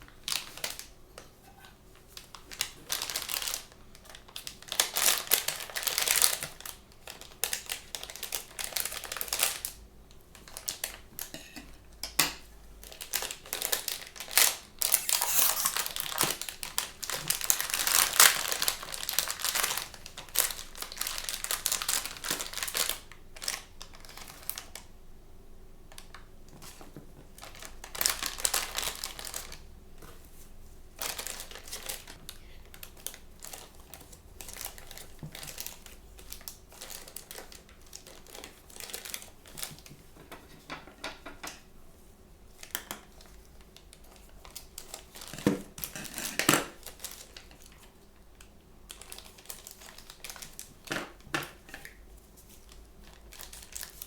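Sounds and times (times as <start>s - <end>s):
plastic packaging crinkling: 0.0s - 12.2s, 12.8s - 24.9s, 26.0s - 40.7s, 41.5s - 54.0s.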